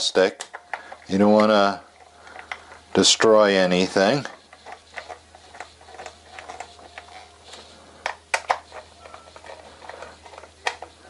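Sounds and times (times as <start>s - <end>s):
screwdriver clicking and scraping: 0.4s - 11.0s.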